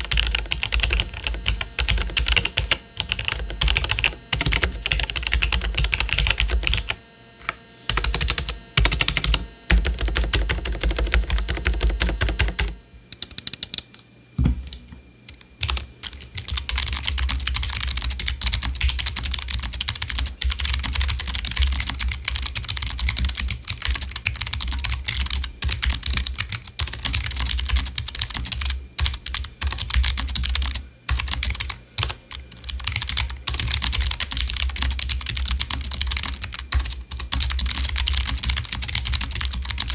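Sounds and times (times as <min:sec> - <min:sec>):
rapid keyboard typing: 0:00.0 - 0:07.0, 0:07.9 - 0:14.0, 0:14.6 - 0:39.9
clicky keyboard typing: 0:00.0 - 0:14.0, 0:14.6 - 0:39.9.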